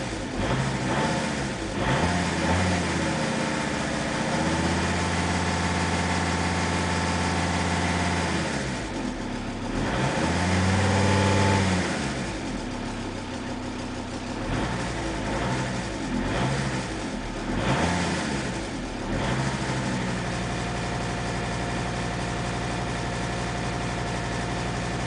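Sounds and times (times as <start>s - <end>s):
diesel engine revving: 0.0s - 25.0s
engine ticking: 0.0s - 25.0s.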